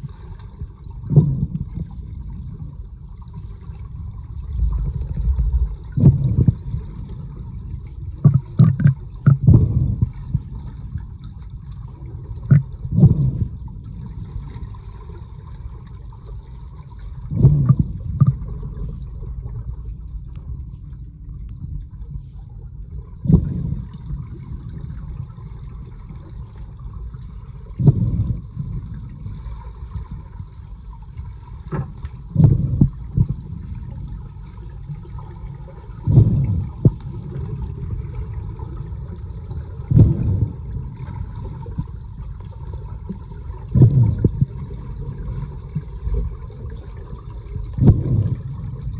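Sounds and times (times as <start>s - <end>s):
underwater low rumble: 0.0s - 48.9s.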